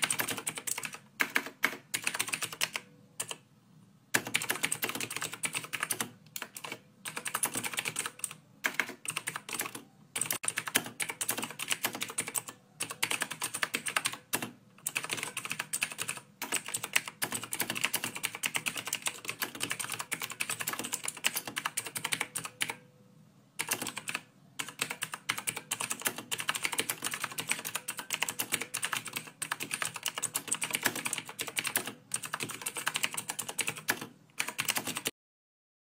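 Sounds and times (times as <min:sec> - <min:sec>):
keyboard typing clicks: 0:00.0 - 0:03.4, 0:04.2 - 0:22.8, 0:23.6 - 0:35.1.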